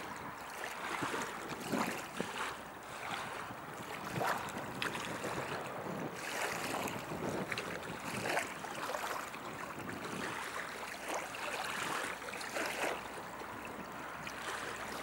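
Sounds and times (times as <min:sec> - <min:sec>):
river water lapping and splashing: 0:00.0 - 0:15.0
steady wash of moving water: 0:00.0 - 0:15.0.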